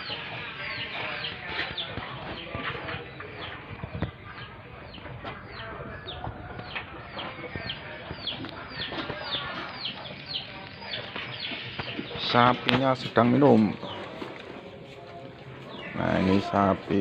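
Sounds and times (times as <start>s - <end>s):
birds chirping: 0.0s - 17.0s
farmyard noise: 0.0s - 17.0s.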